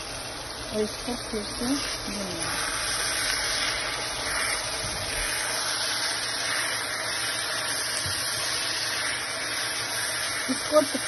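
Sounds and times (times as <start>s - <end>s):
meat sizzling in a wok: 0.0s - 11.0s.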